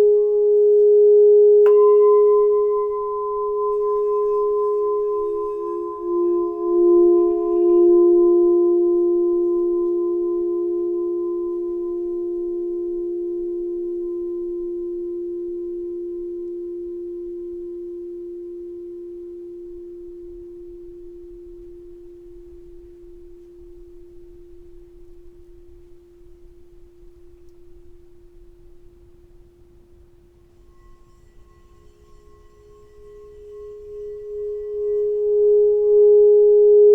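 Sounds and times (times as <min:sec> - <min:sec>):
singing bowl ringing: 0:00.0 - 0:24.9, 0:30.4 - 0:36.9.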